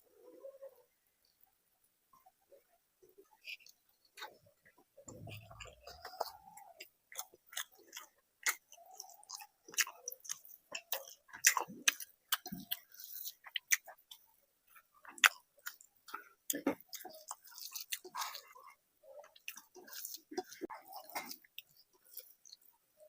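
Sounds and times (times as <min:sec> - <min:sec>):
person chewing food: 0:03.2 - 0:23.0.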